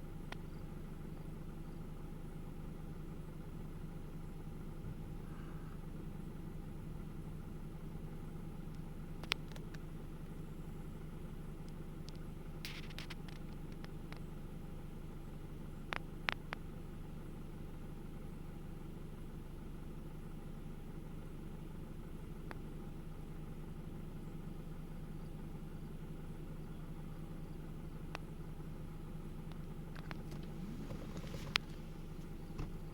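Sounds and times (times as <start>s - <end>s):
low mechanical hum: 0.0s - 32.9s.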